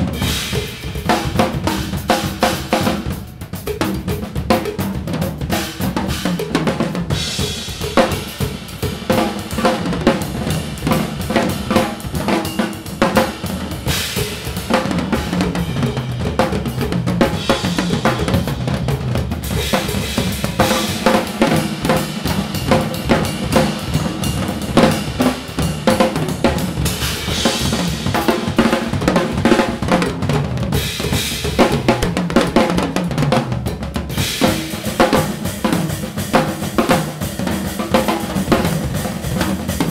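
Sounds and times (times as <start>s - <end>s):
drum kits playing: 0.0s - 39.9s.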